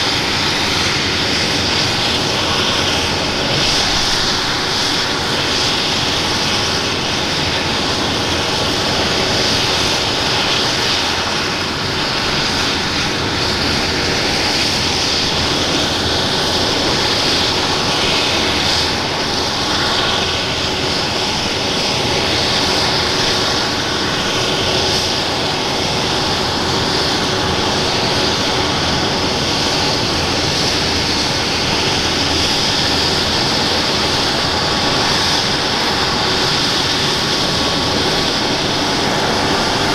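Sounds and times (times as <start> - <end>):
helicopter rotor noise: 0.0 - 39.9
turbine engines whining: 0.0 - 39.9.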